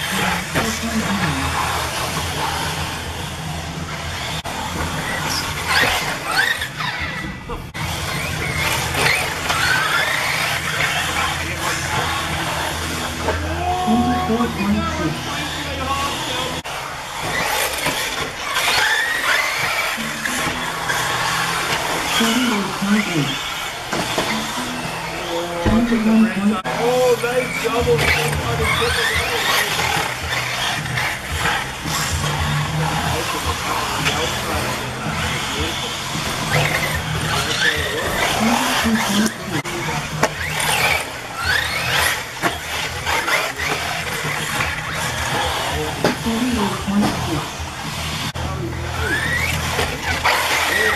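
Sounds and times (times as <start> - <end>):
rc buggy motors whining: 0.0 - 50.9.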